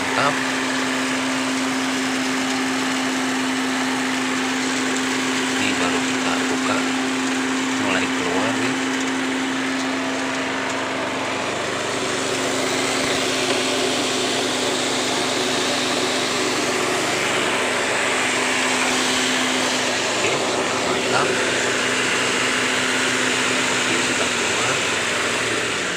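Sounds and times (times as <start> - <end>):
coffee huller whirring: 0.0 - 25.9.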